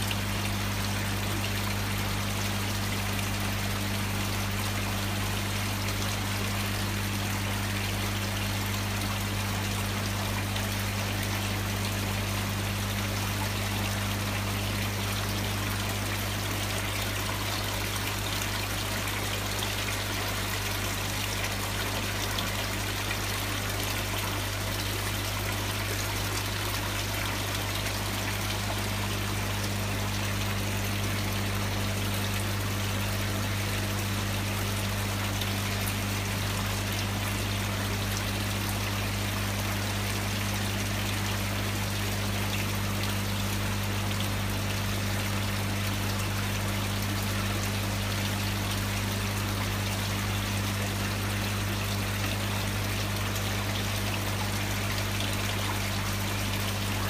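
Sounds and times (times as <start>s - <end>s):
water trickling into basin: 0.0s - 57.0s.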